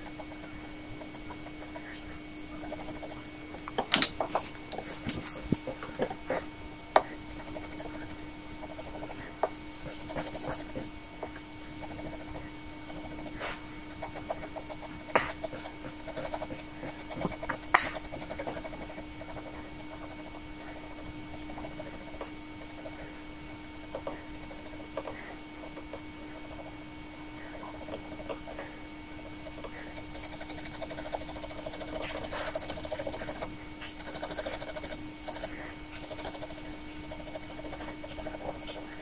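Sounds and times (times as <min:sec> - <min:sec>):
faint steady hum: 0:00.0 - 0:39.0
ink pen scratching on paper: 0:04.3 - 0:26.7, 0:29.4 - 0:39.0.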